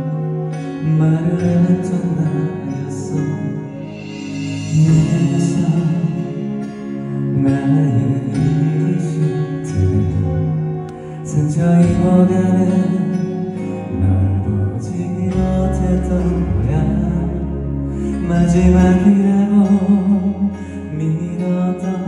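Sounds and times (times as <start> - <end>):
instrumental accompaniment: 0.0 - 22.0
man singing a slow ballad: 0.0 - 22.0.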